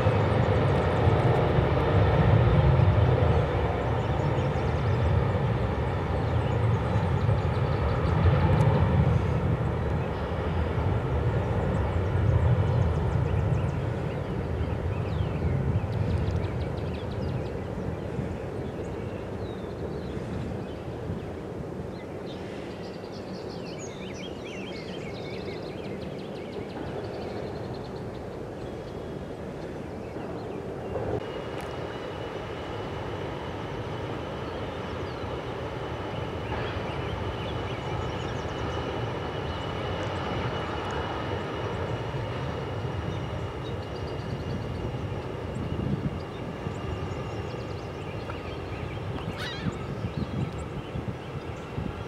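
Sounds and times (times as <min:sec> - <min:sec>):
high steady engine whine: 0:00.0 - 0:52.0
jet engines rumbling: 0:00.0 - 0:52.0.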